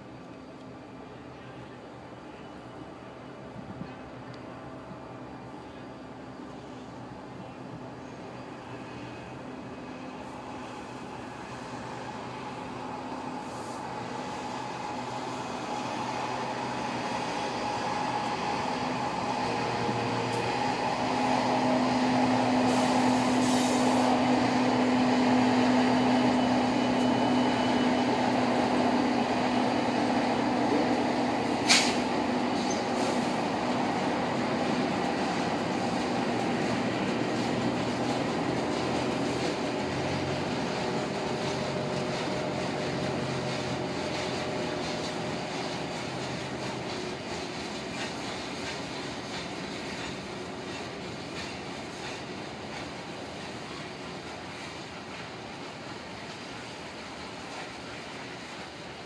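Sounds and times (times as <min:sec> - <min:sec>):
diesel locomotives passing: 0:00.0 - 0:59.0
wheels rolling on rails: 0:11.1 - 0:59.0.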